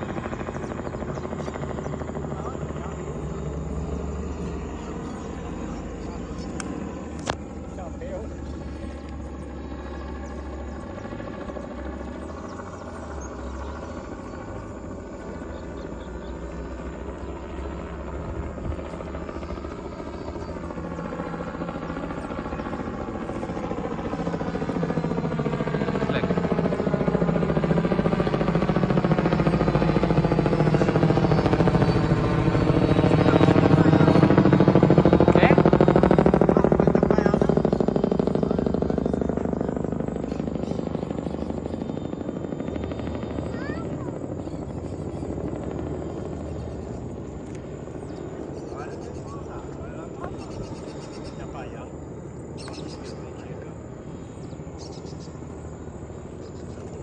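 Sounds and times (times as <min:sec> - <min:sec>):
helicopter rotor beat: 0:00.0 - 0:57.0.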